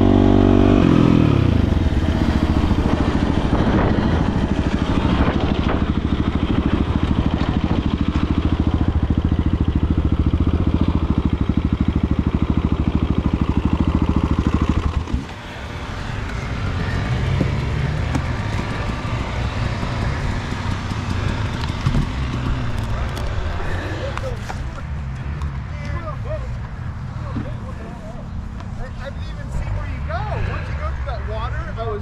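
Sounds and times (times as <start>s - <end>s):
dirt bike engine idling: 0.0s - 27.6s
quieter uneven engine noise: 0.0s - 32.0s.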